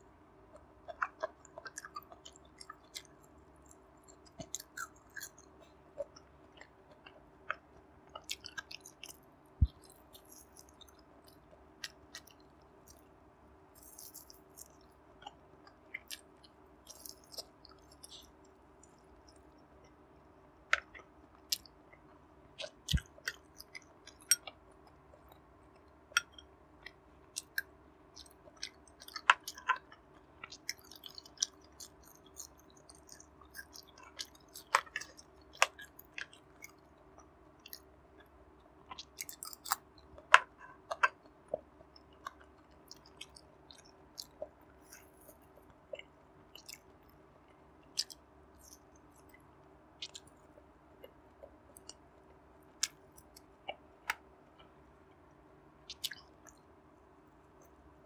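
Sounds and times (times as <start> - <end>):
faint steady hum: 0.0 - 58.0
mouth chewing wet clicks: 0.5 - 13.1, 13.8 - 20.0, 22.6 - 38.3, 38.9 - 54.8, 55.8 - 56.6.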